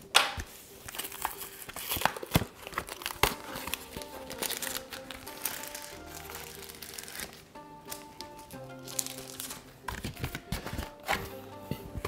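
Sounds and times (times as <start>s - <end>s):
cardboard packaging crinkling: 0.4s - 12.0s.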